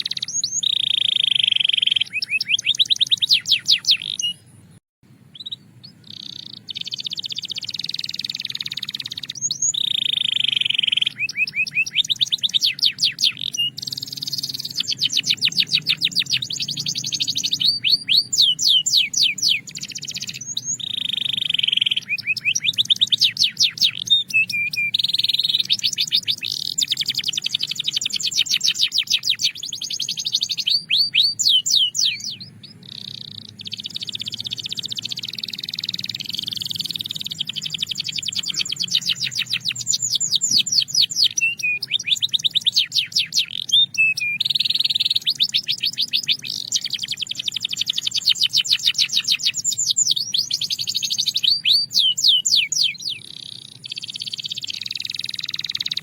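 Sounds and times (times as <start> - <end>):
canary singing in trills: 0.0 - 56.0.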